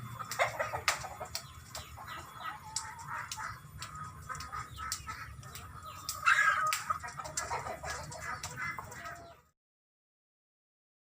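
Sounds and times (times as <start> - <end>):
chickens clucking: 0.0 - 9.5.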